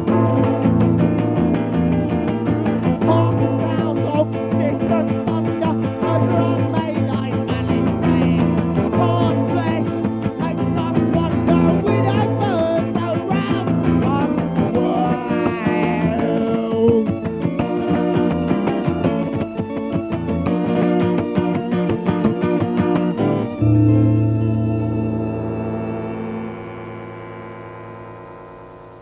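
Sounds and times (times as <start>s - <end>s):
indie rock band playing: 0.0s - 27.4s.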